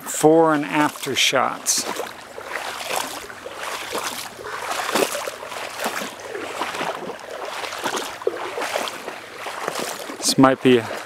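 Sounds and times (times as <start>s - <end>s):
wading splashes in shallow water: 0.0s - 11.0s.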